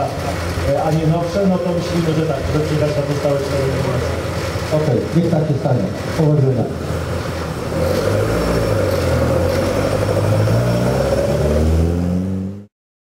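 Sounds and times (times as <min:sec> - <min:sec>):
car engine running at low revs: 0:00.0 - 0:12.7.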